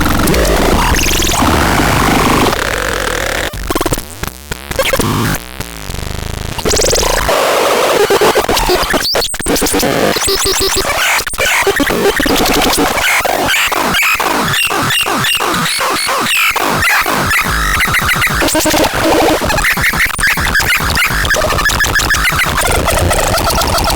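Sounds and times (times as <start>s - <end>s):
harsh noisy synthesizer: 0.0s - 4.0s, 6.5s - 23.9s.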